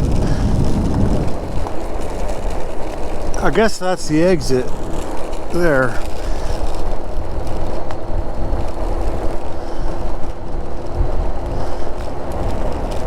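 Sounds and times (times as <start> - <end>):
road and tyre rumble: 0.0 - 13.0
wind rushing over microphone: 0.0 - 13.0.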